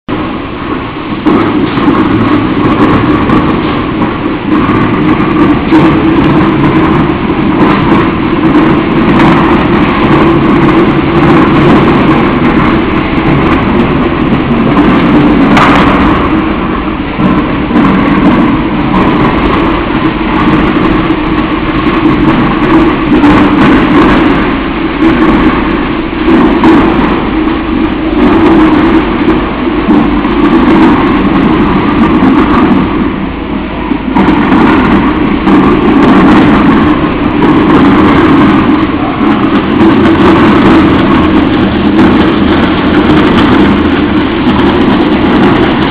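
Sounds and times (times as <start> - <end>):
loud steady rushing: 0.0 - 45.9.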